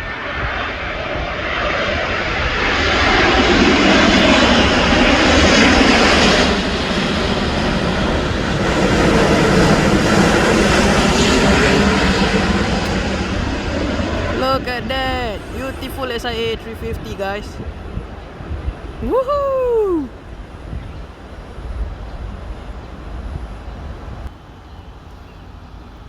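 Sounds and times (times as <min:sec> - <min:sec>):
jet engines roaring: 0:00.0 - 0:24.3.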